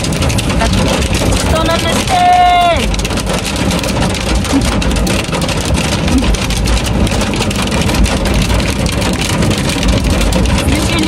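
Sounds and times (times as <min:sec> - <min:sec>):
heavy rain on car roof: 0:00.0 - 0:11.0
low rumble: 0:00.0 - 0:11.0.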